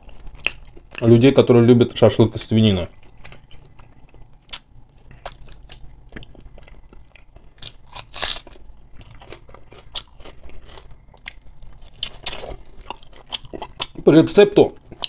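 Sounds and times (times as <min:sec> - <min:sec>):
person chewing: 0:00.0 - 0:01.2, 0:02.8 - 0:14.1, 0:14.7 - 0:15.0.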